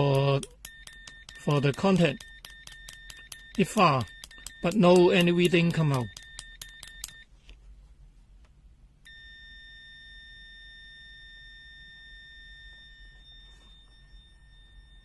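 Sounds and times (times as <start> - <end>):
multimeter continuity beep: 0.0 - 7.3, 9.1 - 15.0.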